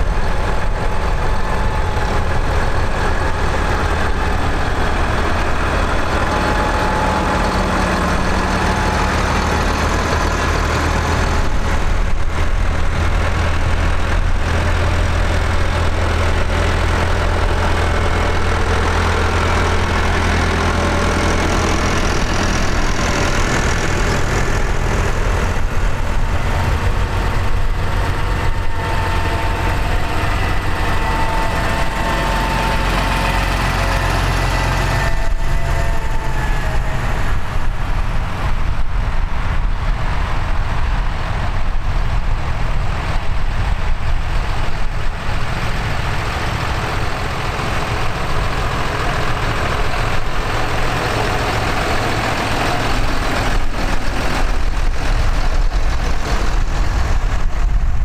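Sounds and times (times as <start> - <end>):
tractor diesel engines droning: 0.0 - 58.0.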